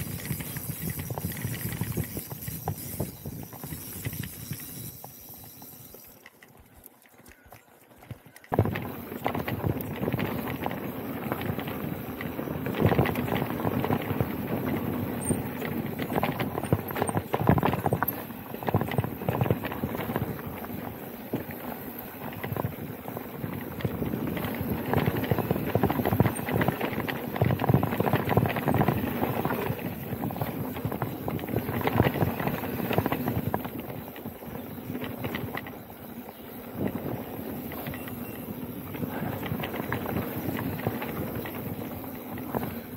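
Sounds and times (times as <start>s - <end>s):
bike rattling over bumps: 0.0s - 42.9s
tyres rolling on dirt: 0.0s - 42.9s.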